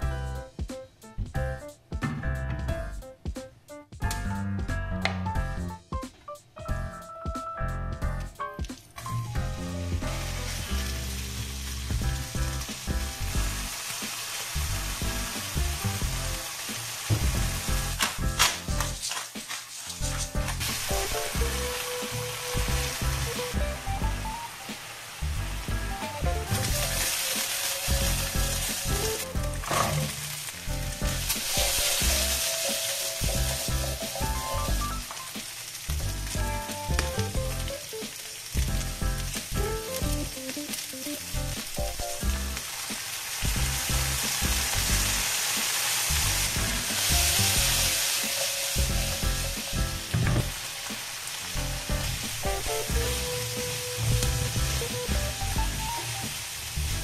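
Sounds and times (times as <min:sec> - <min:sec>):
food sizzling in hot oil: 0:08.7 - 0:57.0.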